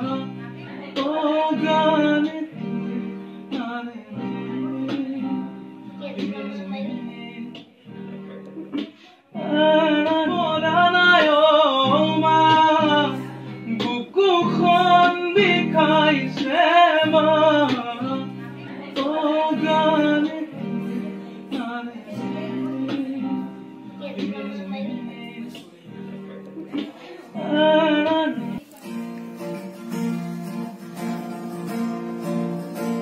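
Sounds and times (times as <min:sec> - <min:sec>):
man singing: 0:00.0 - 0:08.0, 0:08.7 - 0:28.8
acoustic guitar strumming: 0:00.0 - 0:33.0.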